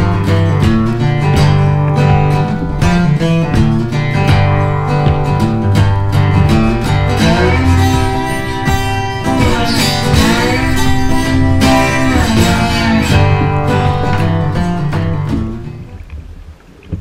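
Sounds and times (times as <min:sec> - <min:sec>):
guitar music with gliding melody: 0:00.0 - 0:17.0.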